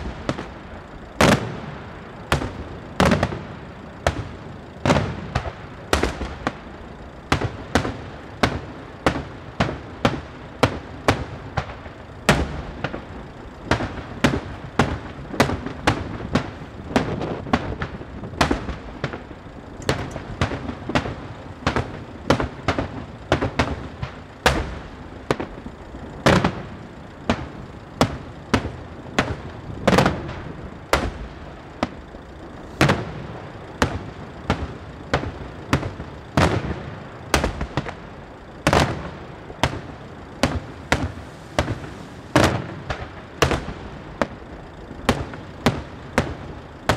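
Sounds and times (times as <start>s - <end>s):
fireworks shells bursting: 0.0s - 46.9s.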